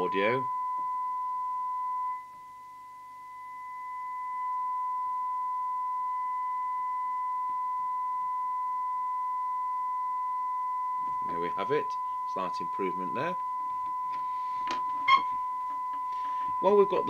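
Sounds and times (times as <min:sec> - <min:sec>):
single-pitch test tone: 0:00.0 - 0:17.0.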